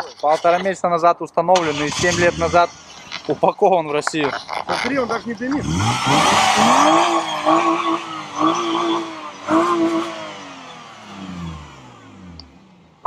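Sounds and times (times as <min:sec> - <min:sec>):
car engine revving: 0:01.6 - 0:03.5, 0:04.3 - 0:13.0.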